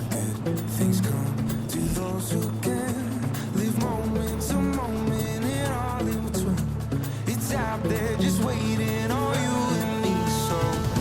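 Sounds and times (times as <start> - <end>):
song with steady beat: 0.0 - 11.0.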